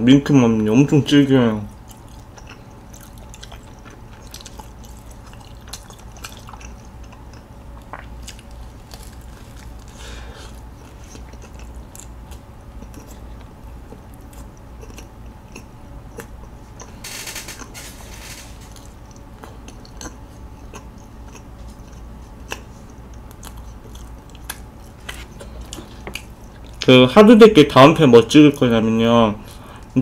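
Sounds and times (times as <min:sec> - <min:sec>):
person chewing: 0:01.7 - 0:26.9.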